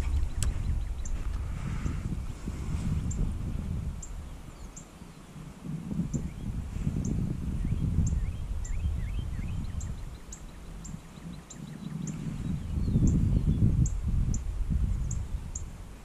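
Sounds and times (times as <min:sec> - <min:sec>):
birds chirping: 0:00.0 - 0:02.1, 0:04.0 - 0:05.4, 0:06.0 - 0:15.8
wind buffeting microphone: 0:00.0 - 0:16.0.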